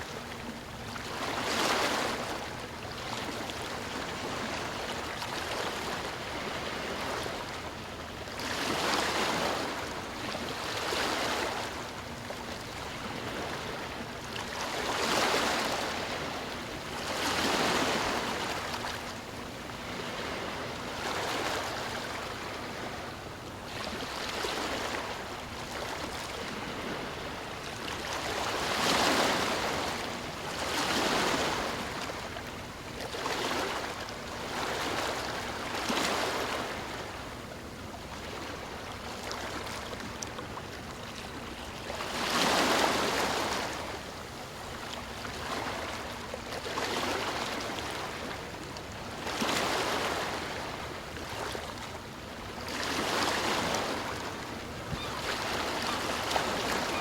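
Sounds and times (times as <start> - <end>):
ocean waves washing ashore: 0.0 - 57.0.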